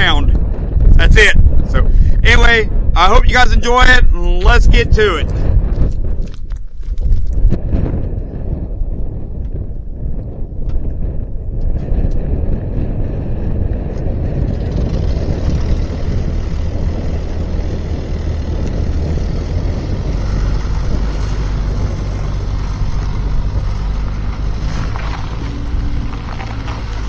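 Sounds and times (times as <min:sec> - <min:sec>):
engine running low rumble: 0:04.2 - 0:27.0.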